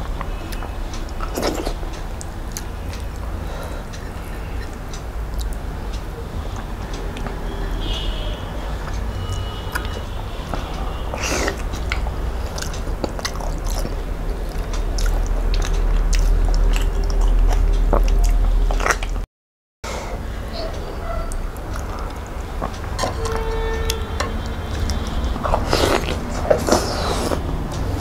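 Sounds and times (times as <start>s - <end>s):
man chewing and smacking: 0.0s - 7.6s, 8.8s - 19.2s, 20.6s - 28.0s.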